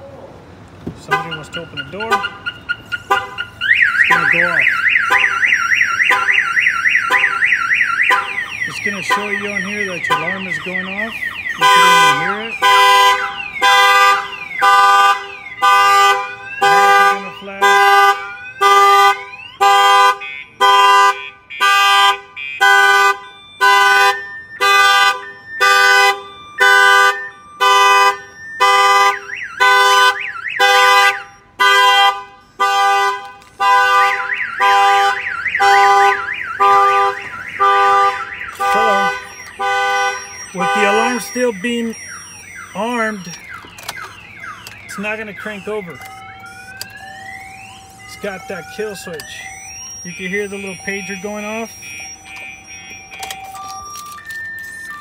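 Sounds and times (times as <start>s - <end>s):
car alarm pulsing tone: 1.0s - 55.0s
rising and falling siren sweep: 1.3s - 20.6s, 21.8s - 31.6s, 33.4s - 55.0s.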